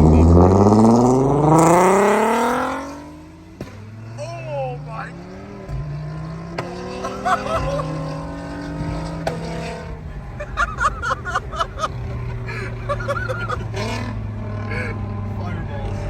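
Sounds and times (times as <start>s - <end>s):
car exhaust drone: 0.0s - 16.0s.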